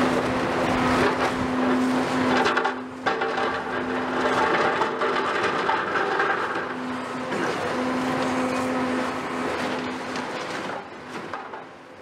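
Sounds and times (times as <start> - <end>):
dense mechanical noise: 0.0 - 12.0
excavator engine drone: 0.0 - 12.0.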